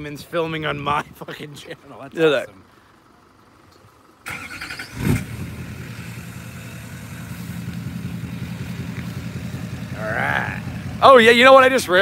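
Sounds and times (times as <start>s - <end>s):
diesel engine idling: 0.0s - 12.0s
diesel engine cranking: 2.3s - 12.0s.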